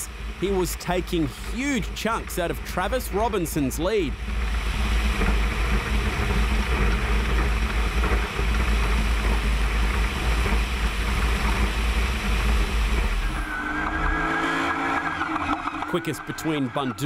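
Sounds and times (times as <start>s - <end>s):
race car engine running: 0.0s - 17.0s
tyres rumbling on rough ground: 0.0s - 17.0s.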